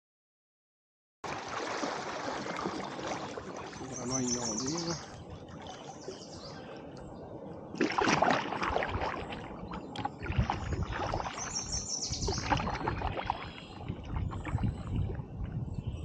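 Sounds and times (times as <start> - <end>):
paddle strokes splashing water: 1.2 - 6.9, 7.7 - 15.6.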